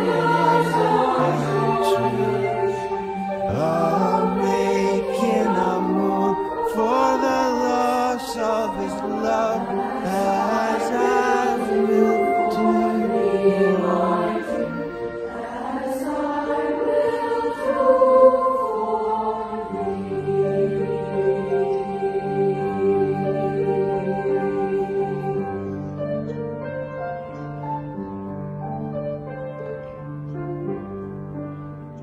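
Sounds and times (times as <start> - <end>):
voices singing in harmony: 0.0 - 26.0.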